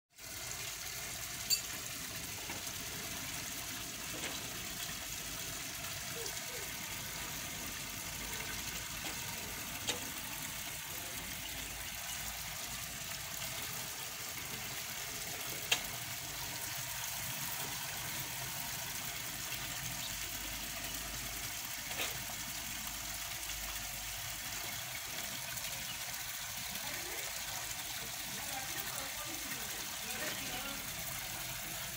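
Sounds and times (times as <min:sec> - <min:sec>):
fountain water splashing into pool: 0:00.2 - 0:31.9.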